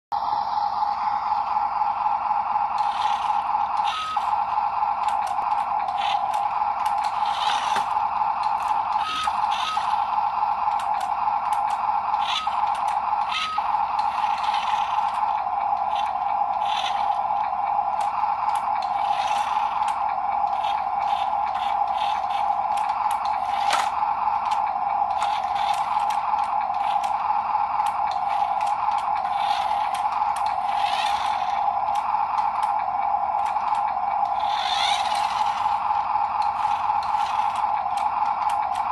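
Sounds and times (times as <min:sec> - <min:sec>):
toy truck motor whining: 0:00.2 - 0:38.9.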